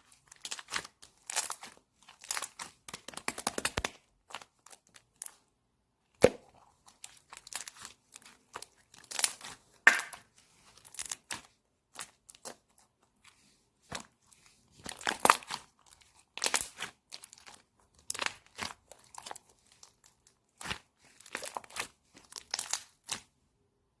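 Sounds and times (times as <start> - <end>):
crinkling handling noises: 0.0 - 5.5, 6.5 - 23.4.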